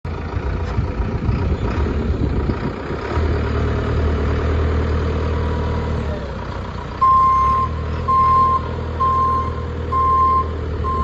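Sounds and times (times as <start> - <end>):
backhoe loader engine running: 0.1 - 11.0.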